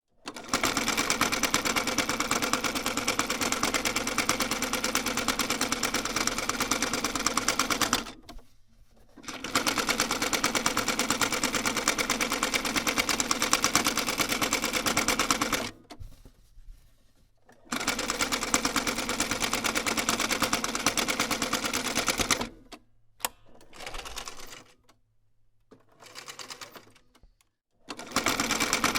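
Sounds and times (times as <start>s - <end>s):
sewing machine stitching: 0.2s - 8.4s, 9.0s - 15.9s, 17.5s - 22.7s, 23.5s - 24.8s, 25.7s - 27.1s, 27.9s - 28.9s.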